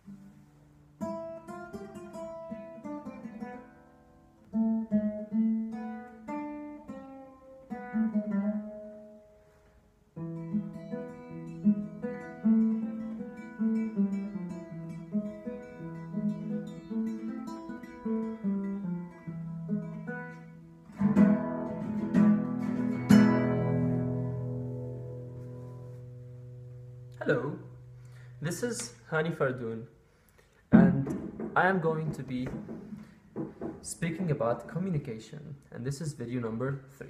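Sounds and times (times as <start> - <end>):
acoustic guitar playing: 0.0 - 35.6.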